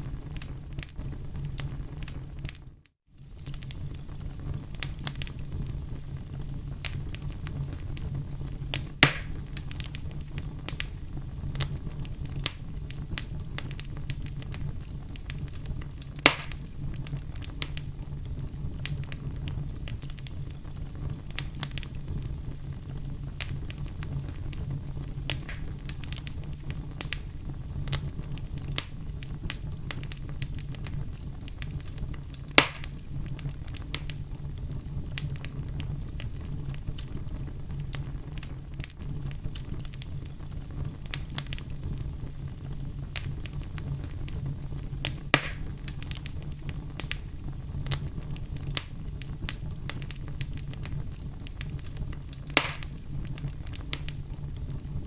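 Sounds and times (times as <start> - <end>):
low rumble of flame: 0.0 - 55.0
wood fire crackling: 0.0 - 55.0
loud pops of burning wood: 0.2 - 55.0.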